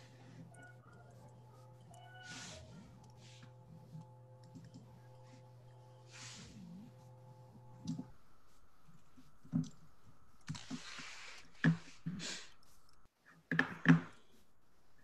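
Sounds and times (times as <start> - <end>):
faint steady hum: 0.0 - 13.1.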